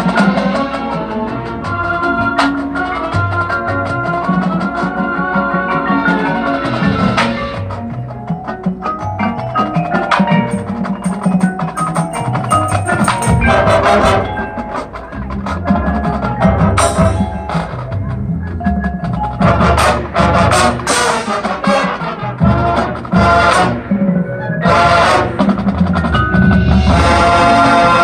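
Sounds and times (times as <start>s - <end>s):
drums: 0.0s - 28.0s
mallet percussion: 0.0s - 28.0s
marching band chords: 0.0s - 28.0s.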